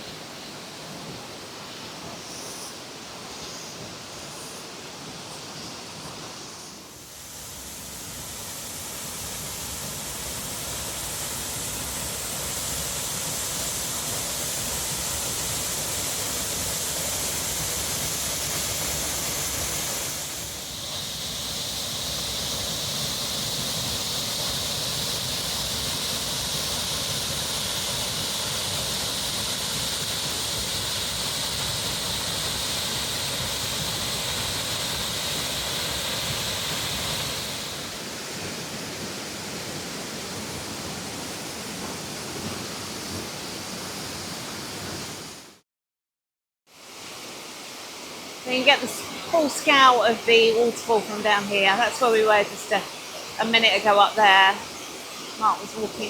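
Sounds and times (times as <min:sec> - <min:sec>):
waterfall rushing: 0:06.8 - 0:45.4, 0:46.8 - 0:56.0.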